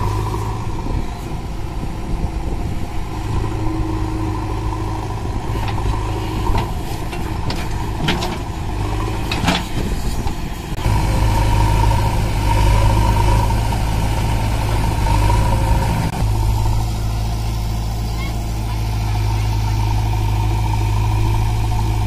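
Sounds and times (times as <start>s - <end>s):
diesel engines running: 0.0s - 22.0s.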